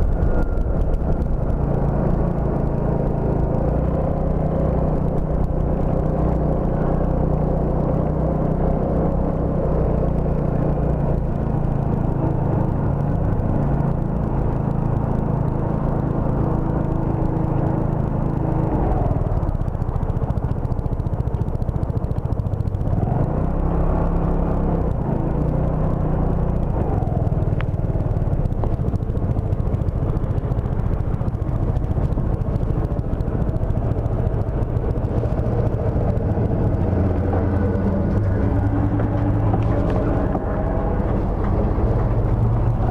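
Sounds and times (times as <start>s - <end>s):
motor scooter engine running: 0.0s - 42.9s.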